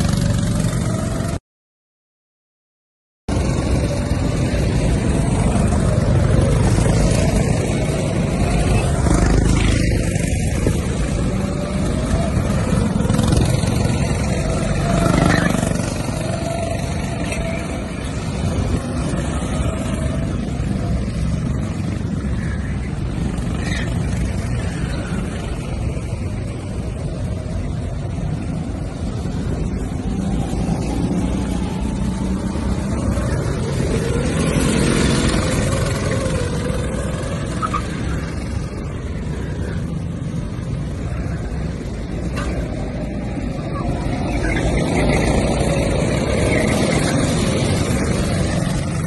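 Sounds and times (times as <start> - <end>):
go-kart engines droning: 0.0 - 1.4, 3.3 - 49.0
kart passing close: 0.0 - 1.4, 3.3 - 49.0.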